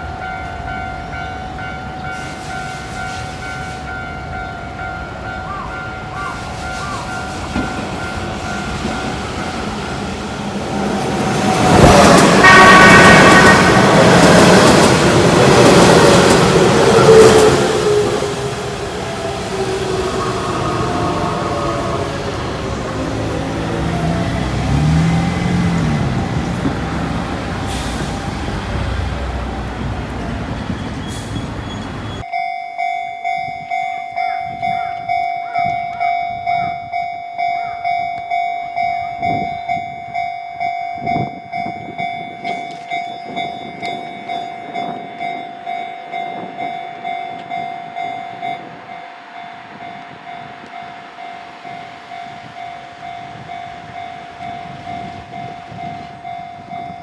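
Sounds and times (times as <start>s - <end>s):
train passing rumble: 0.0s - 32.3s, 34.6s - 57.0s
level-crossing alarm ringing: 0.0s - 57.0s.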